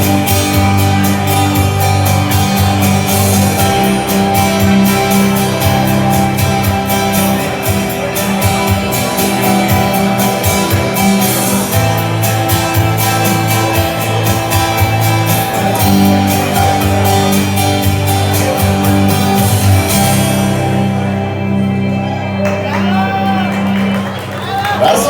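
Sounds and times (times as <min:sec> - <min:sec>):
rock band playing guitar: 0:00.0 - 0:25.0.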